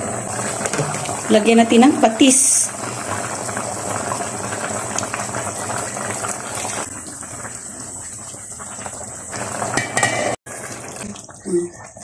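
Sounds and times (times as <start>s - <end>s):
sauce bubbling in a pan: 0.1s - 12.0s.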